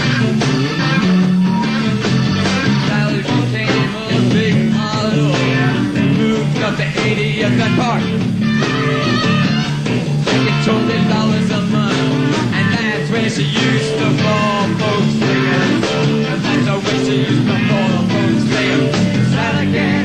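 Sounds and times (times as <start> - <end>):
electric guitar: 0.0 - 20.0
live rock band playing: 0.0 - 20.0
organ: 0.0 - 20.0.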